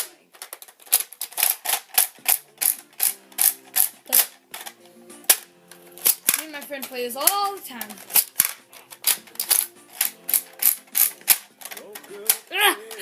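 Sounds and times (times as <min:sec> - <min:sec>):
plastic toy cylinder clicks: 0:00.0 - 0:12.5.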